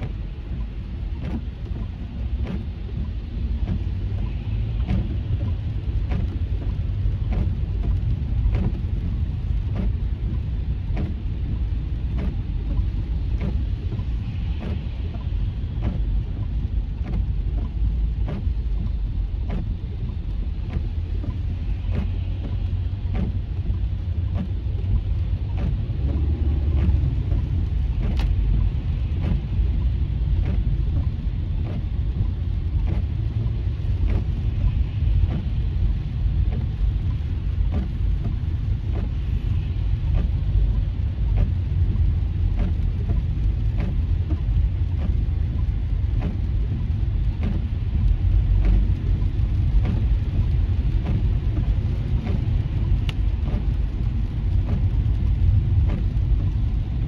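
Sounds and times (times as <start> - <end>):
car engine: 0.0 - 57.0
faint ticks: 0.0 - 57.0
tyres on wet pavement: 0.0 - 57.0.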